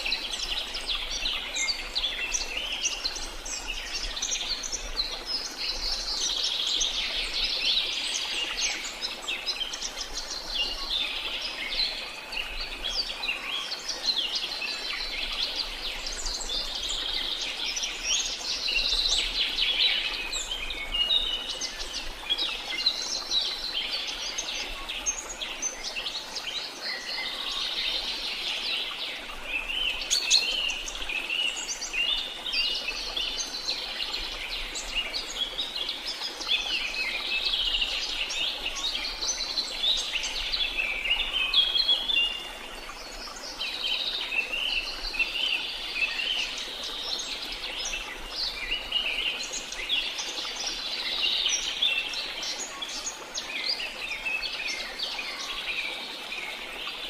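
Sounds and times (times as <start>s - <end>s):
small birds chirping and trilling: 0.0s - 57.0s.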